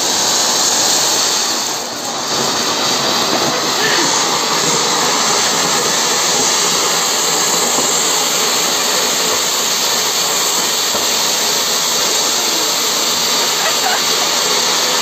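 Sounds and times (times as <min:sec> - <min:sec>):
fountain firework hissing: 0:00.0 - 0:15.0.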